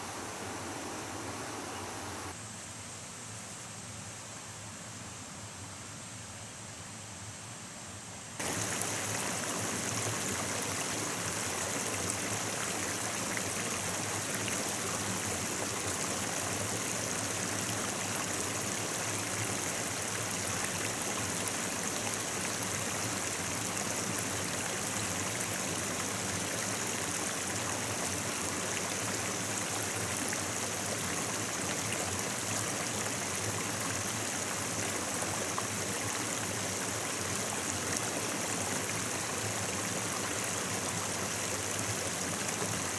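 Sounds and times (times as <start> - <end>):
stream water flowing: 0.0 - 2.4, 8.4 - 42.9.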